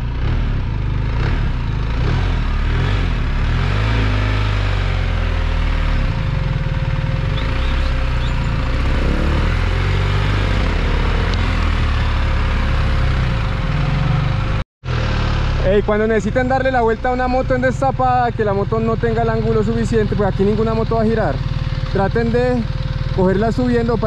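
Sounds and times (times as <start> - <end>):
motorcycle engine running low: 0.0 - 24.0.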